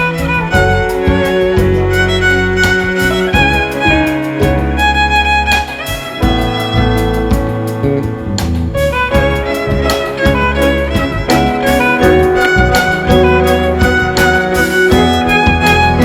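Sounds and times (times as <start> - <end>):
string ensemble playing: 0.0 - 16.0.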